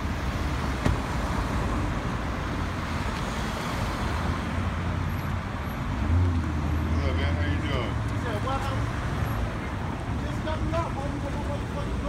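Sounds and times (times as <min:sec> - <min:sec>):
cars passing: 0:00.0 - 0:12.0.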